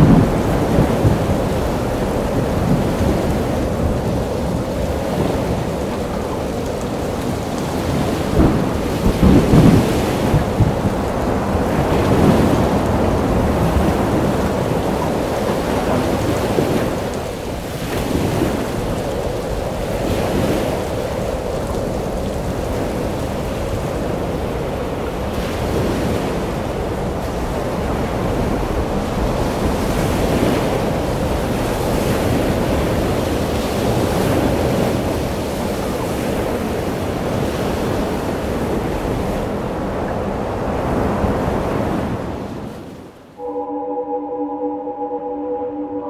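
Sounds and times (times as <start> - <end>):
waves breaking: 0.0 - 43.1
wind: 0.0 - 46.0.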